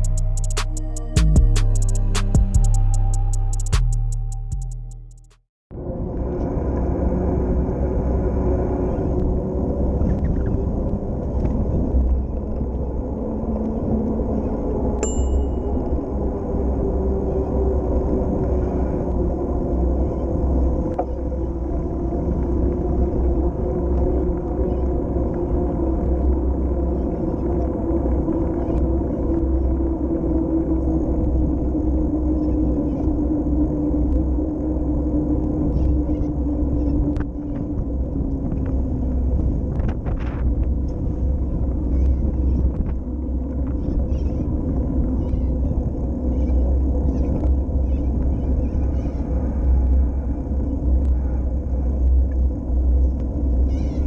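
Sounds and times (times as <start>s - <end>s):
bicycle rolling hum: 5.7s - 54.0s
wind noise on microphone: 5.7s - 54.0s.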